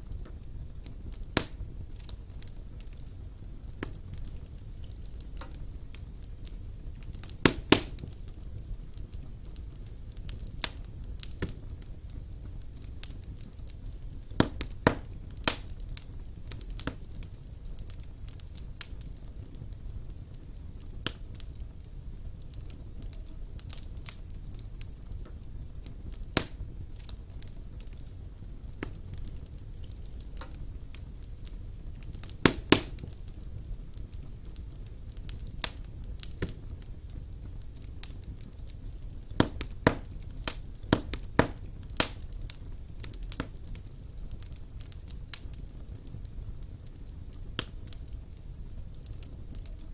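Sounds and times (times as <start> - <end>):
fire crackling and popping: 0.0 - 49.9
low rumble of flames: 0.0 - 49.9.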